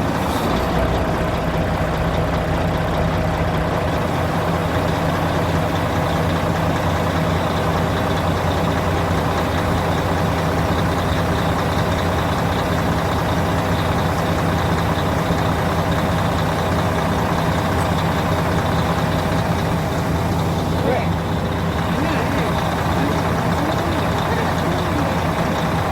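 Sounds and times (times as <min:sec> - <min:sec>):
diesel truck engine idling: 0:00.0 - 0:25.9.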